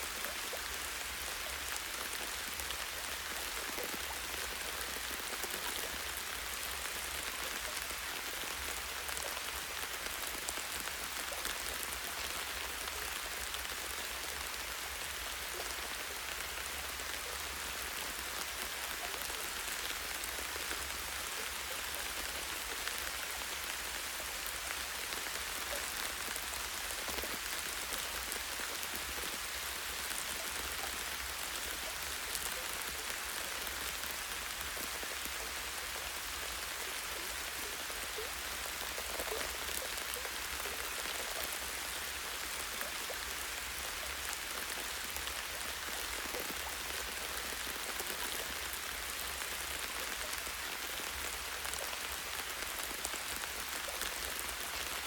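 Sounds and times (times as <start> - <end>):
light rain on leaves: 0.0 - 55.0.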